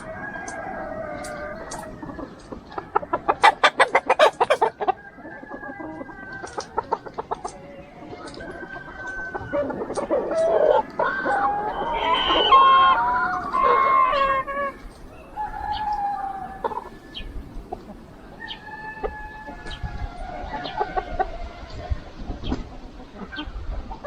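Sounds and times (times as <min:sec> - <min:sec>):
rooster crowing: 0:00.0 - 0:02.4, 0:03.0 - 0:07.0, 0:07.9 - 0:17.5, 0:18.2 - 0:21.8
chickens clucking: 0:00.0 - 0:24.0
chickens drawn-out calls: 0:00.0 - 0:24.0.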